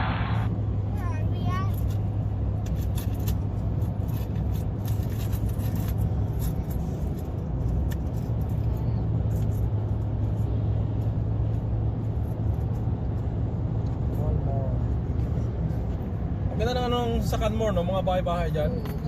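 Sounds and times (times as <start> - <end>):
car engine drone: 0.0 - 19.0.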